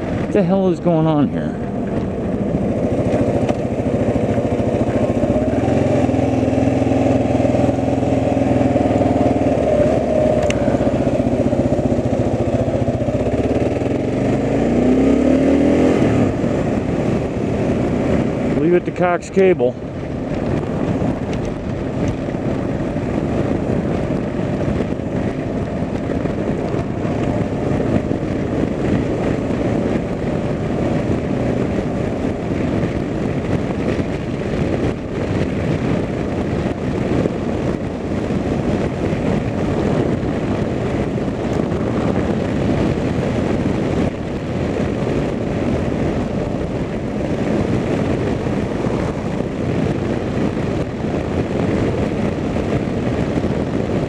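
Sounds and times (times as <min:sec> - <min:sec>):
vehicle engine and road noise: 0:00.0 - 0:54.0
wind on microphone: 0:00.0 - 0:54.0.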